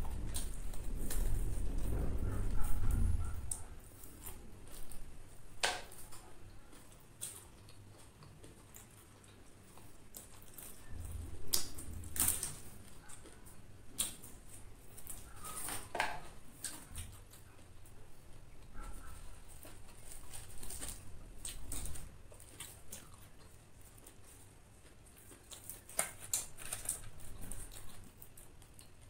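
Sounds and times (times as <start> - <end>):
crunchy chewing of fried chicken: 0.0 - 29.0.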